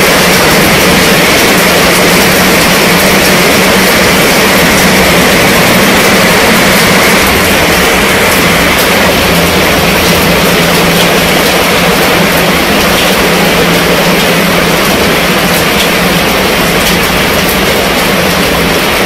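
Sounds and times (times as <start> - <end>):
heavy rain on tent canopy: 0.0 - 19.0.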